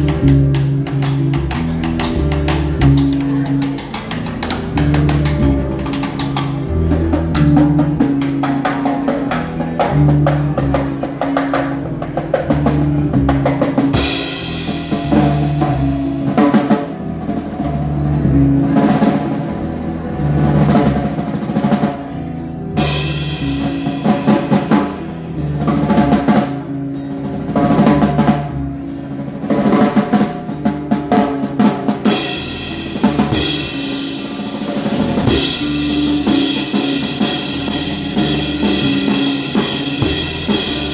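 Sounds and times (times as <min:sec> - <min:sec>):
live instrumental trio: 0:00.0 - 0:40.9
low held notes: 0:00.0 - 0:40.9.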